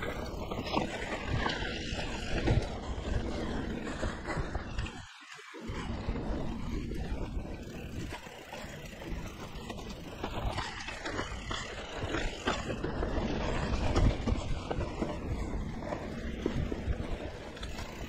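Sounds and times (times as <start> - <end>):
bike rattling over bumps: 0.0 - 18.0
tyres rumbling on dirt: 0.0 - 18.0
wind rushing on camera: 0.0 - 18.0.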